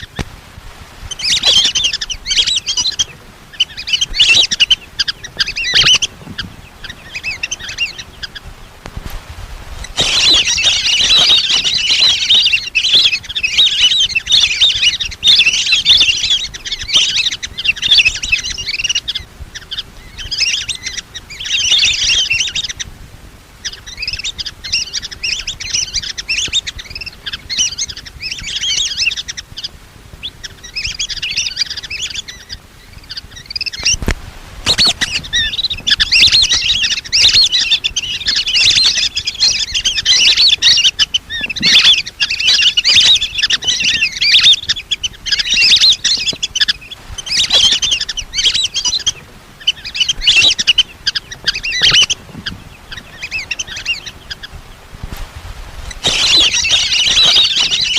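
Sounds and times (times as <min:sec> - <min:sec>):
ducks whistling chirps: 0:00.0 - 0:00.3, 0:01.0 - 0:08.9, 0:09.8 - 0:22.9, 0:23.6 - 0:54.9, 0:55.8 - 0:57.9.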